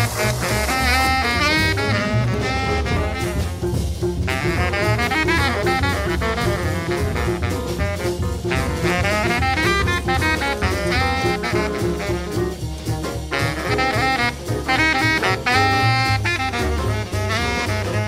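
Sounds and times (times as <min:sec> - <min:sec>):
drum kit: 0:00.0 - 0:18.0
jazz horns: 0:00.0 - 0:18.0.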